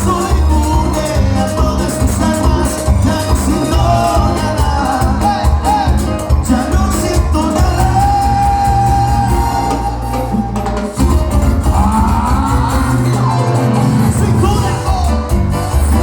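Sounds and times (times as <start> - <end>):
live band music: 0.0 - 16.0
person singing: 0.0 - 16.0
pulsing bass beat: 0.0 - 16.0.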